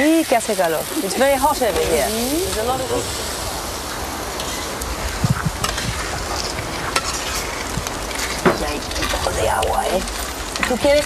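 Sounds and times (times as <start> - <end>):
pan sizzling: 0.0 - 11.0
wood fire knocks and crackles: 0.6 - 11.0.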